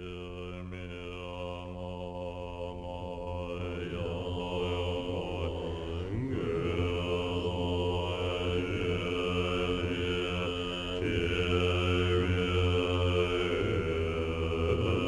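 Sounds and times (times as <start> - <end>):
monks chanting in deep voices: 0.0 - 15.0.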